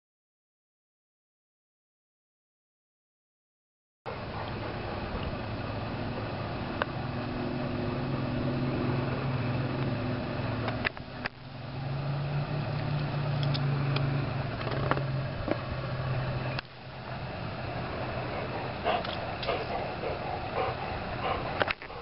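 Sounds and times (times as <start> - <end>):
motor engine humming: 4.1 - 22.0.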